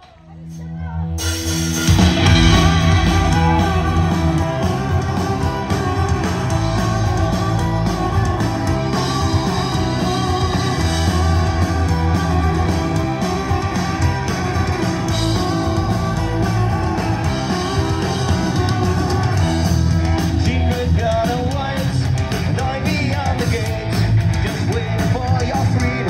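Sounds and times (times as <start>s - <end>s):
live folk-punk band playing: 0.3s - 26.0s.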